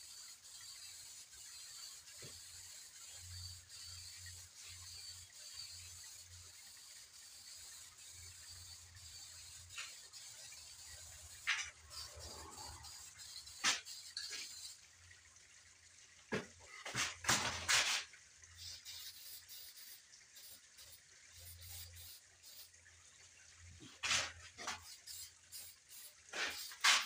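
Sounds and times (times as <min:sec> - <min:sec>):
spray can hissing bursts: 0:00.0 - 0:14.8, 0:18.6 - 0:22.8, 0:24.0 - 0:27.0.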